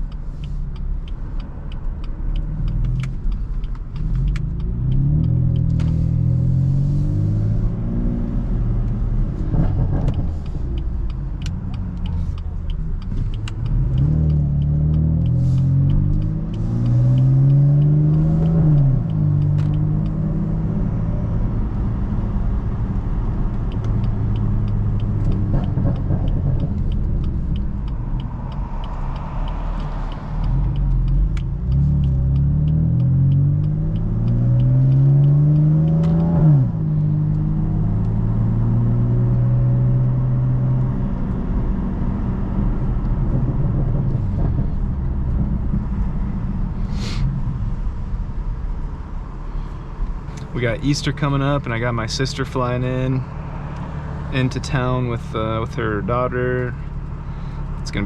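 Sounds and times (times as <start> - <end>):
car engine accelerating and shifting: 0.0 - 58.0.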